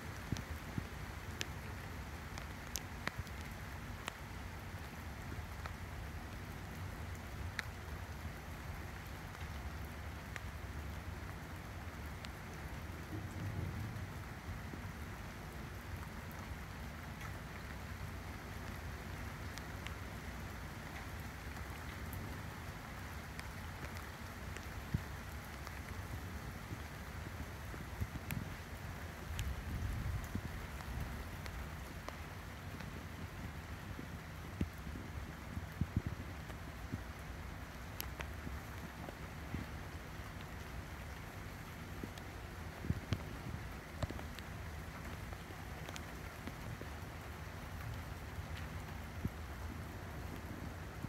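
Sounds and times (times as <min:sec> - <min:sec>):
rain on leaves and grass: 0:00.0 - 0:51.0.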